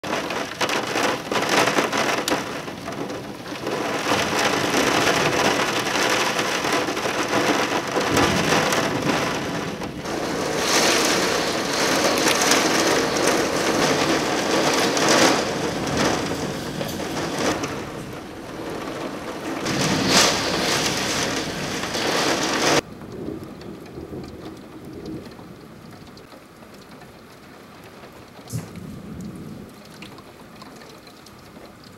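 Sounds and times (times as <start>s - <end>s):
thunder rumbling: 0.0s - 26.3s, 28.2s - 30.7s
heavy rain pouring: 0.0s - 31.9s.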